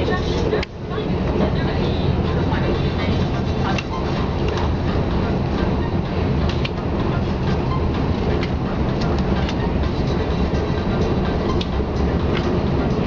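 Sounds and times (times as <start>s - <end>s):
train cabin rumble: 0.0s - 13.0s.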